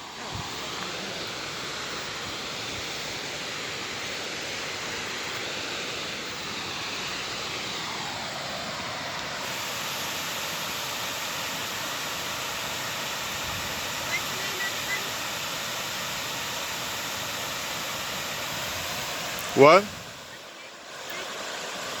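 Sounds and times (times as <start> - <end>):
water rushing over dam: 0.0 - 22.0.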